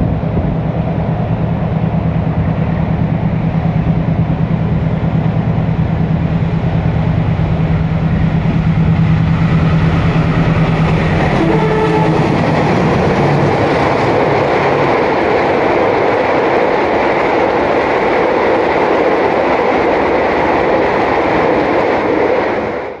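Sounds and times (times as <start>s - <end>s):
train wheels clattering on rails: 0.0s - 22.6s
locomotive drone: 0.0s - 23.0s.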